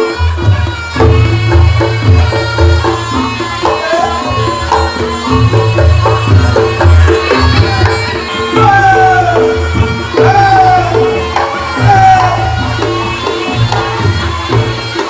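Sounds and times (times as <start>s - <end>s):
hand drums: 0.0s - 15.0s
shawm melody sliding down: 0.1s - 15.0s.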